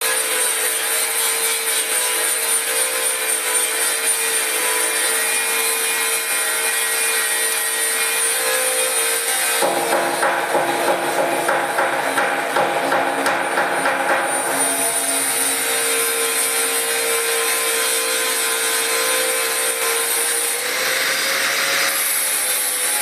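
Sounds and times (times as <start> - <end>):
power tool cutting metal: 0.0 - 23.0.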